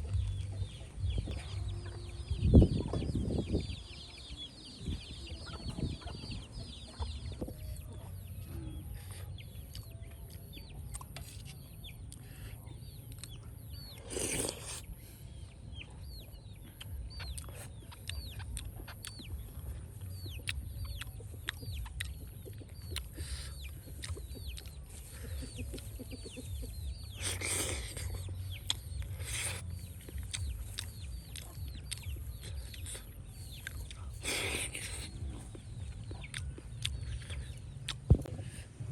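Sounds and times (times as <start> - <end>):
steady low rumble: 0.0 - 14.0, 14.8 - 38.9
chickens chirping: 0.0 - 38.9.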